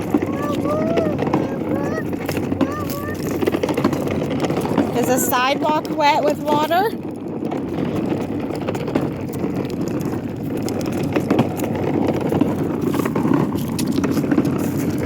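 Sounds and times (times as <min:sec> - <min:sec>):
plastic wheels rumbling on pavement: 0:00.0 - 0:15.0
small clicks and rattles: 0:00.0 - 0:15.0.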